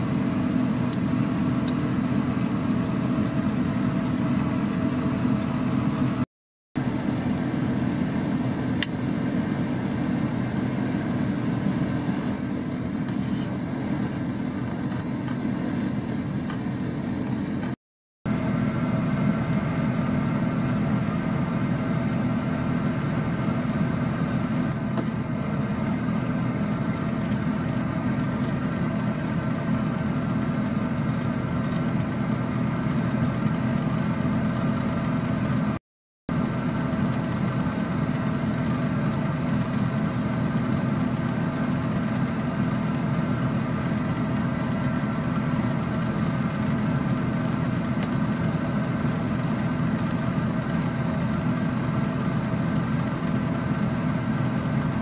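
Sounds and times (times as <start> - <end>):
vehicle engine idling: 0.0 - 6.2, 6.8 - 55.0.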